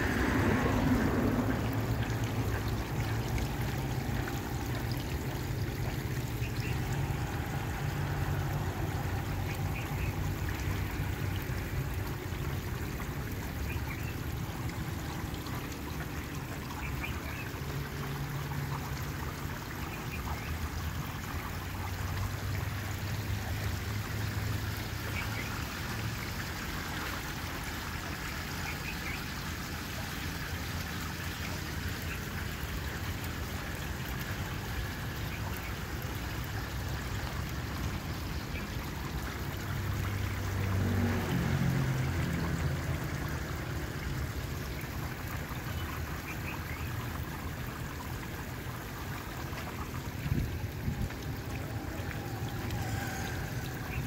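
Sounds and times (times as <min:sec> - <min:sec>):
fountain water trickling: 0:00.0 - 0:54.0.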